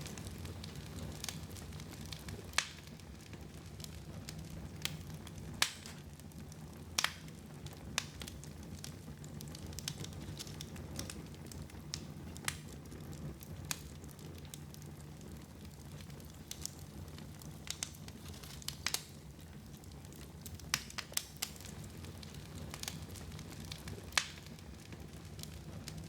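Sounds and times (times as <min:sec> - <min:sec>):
flames rumbling: 0:00.0 - 0:26.0
wood fire popping: 0:00.0 - 0:26.0.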